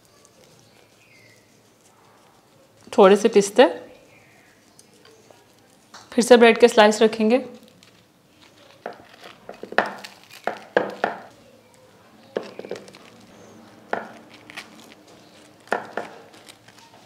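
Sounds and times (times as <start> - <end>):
bread crackling in glass dish: 0.0 - 17.0.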